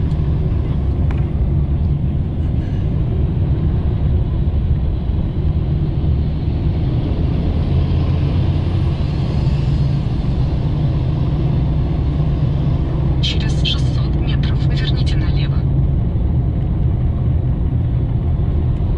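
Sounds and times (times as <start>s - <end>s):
car cabin road and engine rumble: 0.0s - 18.9s.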